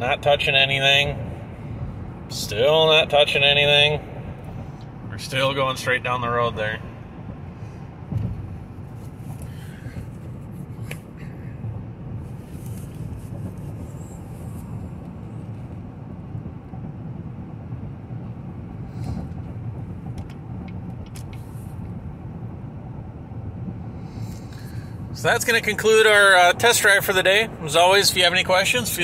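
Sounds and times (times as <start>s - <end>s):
low drivetrain hum: 0.0s - 29.0s
road and tyre noise: 0.0s - 29.0s.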